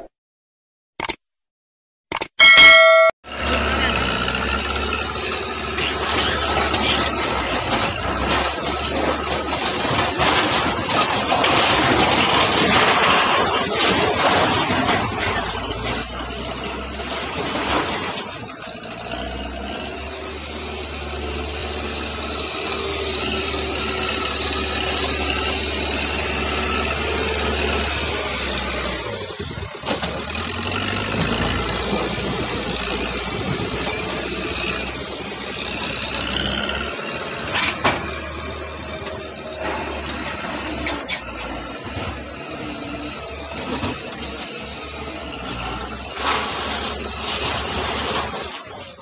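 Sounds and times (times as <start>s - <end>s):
diesel engine droning: 2.7s - 49.0s.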